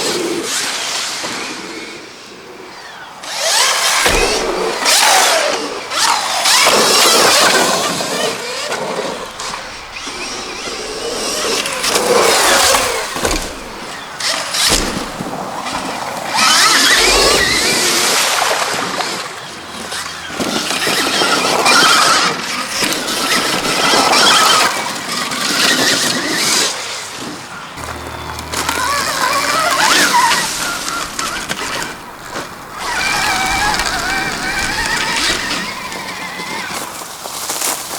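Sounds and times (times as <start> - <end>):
electric motor whine: 3.2 - 36.9
chain and tyre noise: 3.2 - 37.9.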